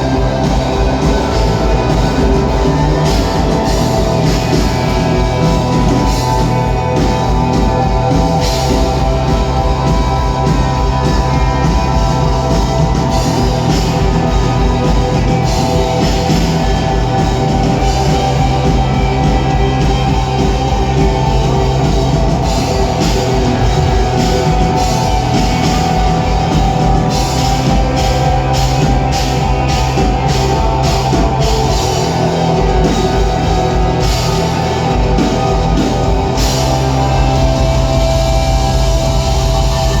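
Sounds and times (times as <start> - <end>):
rock band playing instrumental: 0.0 - 40.0.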